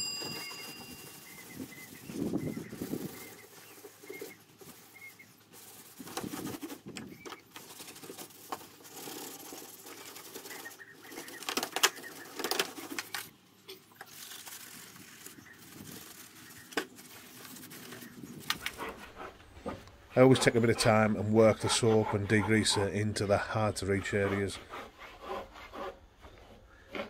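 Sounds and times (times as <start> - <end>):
stiff brush scrubbing plastic: 0.0 - 27.0.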